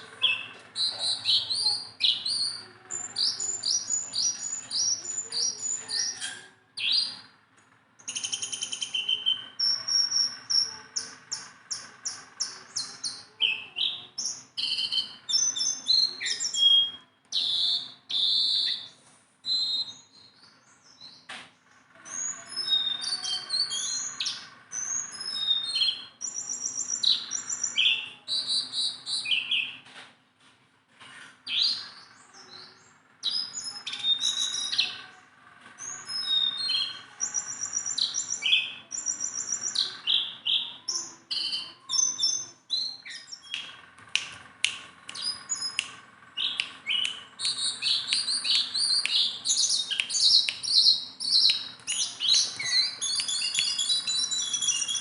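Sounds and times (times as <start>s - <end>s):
songbird chirping and whistling: 0.0s - 7.3s, 8.0s - 21.3s, 22.1s - 29.8s, 31.5s - 35.0s, 35.8s - 55.0s.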